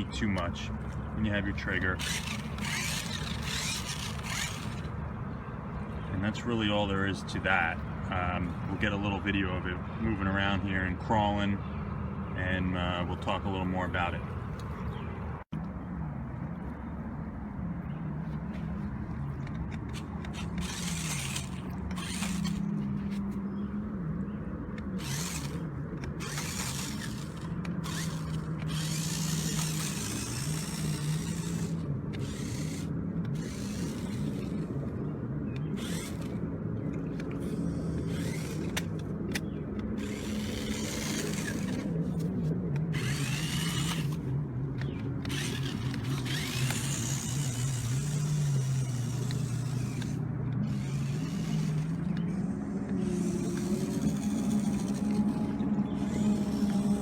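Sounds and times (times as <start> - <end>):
small electric motor whining: 0.0 - 7.8, 18.2 - 57.0.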